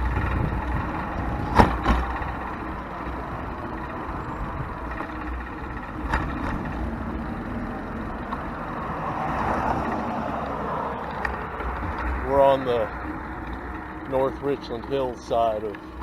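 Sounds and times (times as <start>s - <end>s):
road traffic: 0.0s - 16.0s
vehicle passing: 0.0s - 16.0s.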